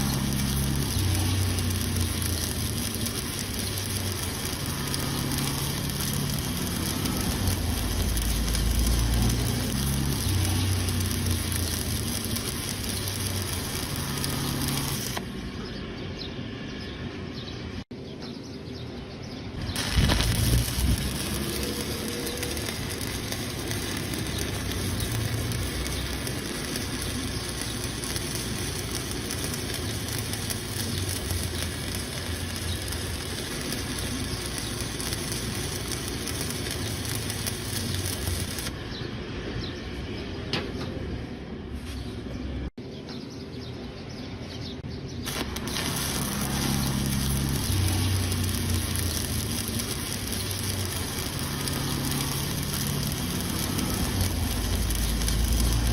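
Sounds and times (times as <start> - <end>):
welding arc crackling: 0.0 - 15.8, 19.5 - 38.8, 45.1 - 55.9.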